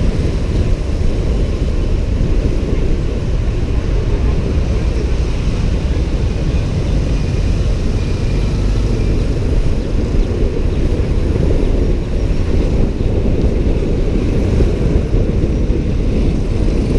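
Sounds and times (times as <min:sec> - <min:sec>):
road noise: 0:00.0 - 0:16.9
wind on microphone: 0:00.0 - 0:16.9.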